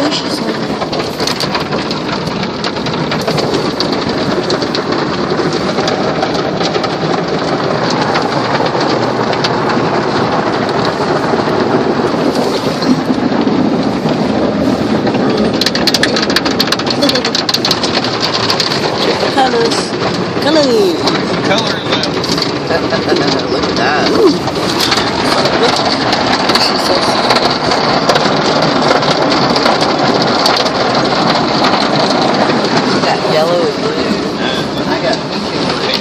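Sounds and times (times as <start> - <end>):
water spray drumming on car: 0.0 - 36.0.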